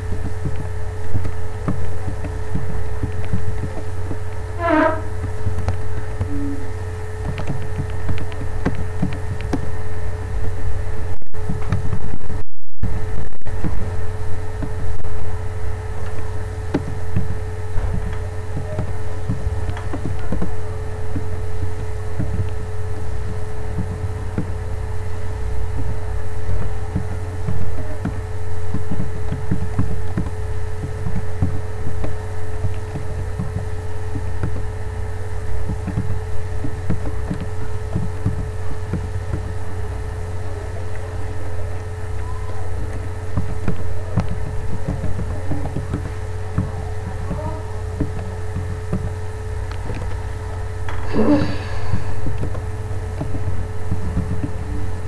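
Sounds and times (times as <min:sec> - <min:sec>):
high whine: 0:00.0 - 0:55.0
steady low hum: 0:00.0 - 0:55.0.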